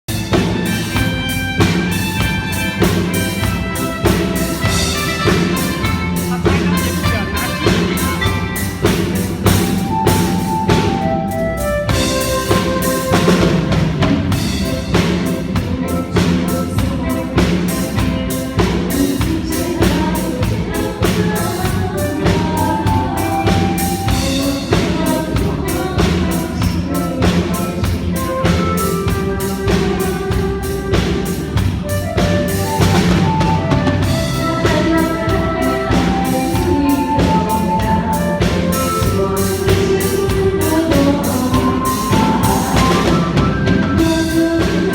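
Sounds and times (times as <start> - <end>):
drum kit steady beat: 0.0 - 44.9
live band music: 0.1 - 44.9.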